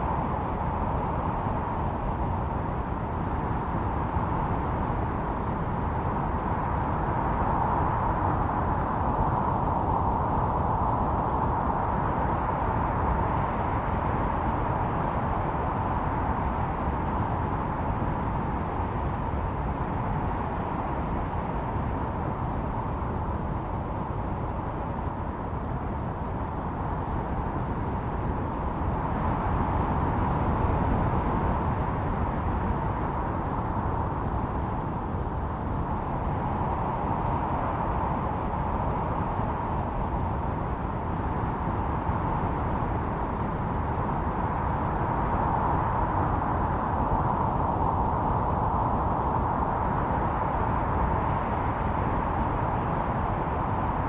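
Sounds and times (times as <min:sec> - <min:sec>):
blizzard wind howling: 0:00.0 - 0:54.0.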